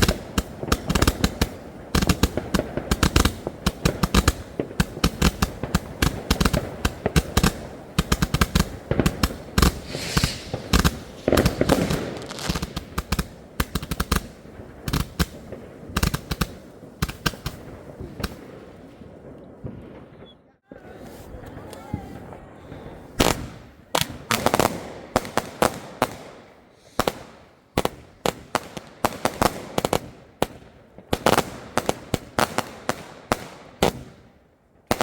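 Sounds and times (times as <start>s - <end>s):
firework battery crackling: 0.0s - 35.0s.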